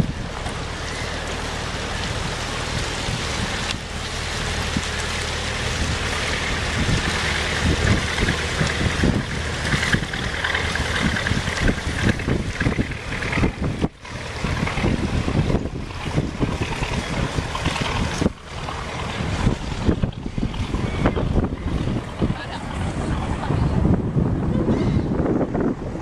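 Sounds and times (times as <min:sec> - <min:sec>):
boat engine running: 0:00.0 - 0:26.0
water washing from hull: 0:00.0 - 0:26.0
wind buffeting microphone: 0:00.0 - 0:26.0.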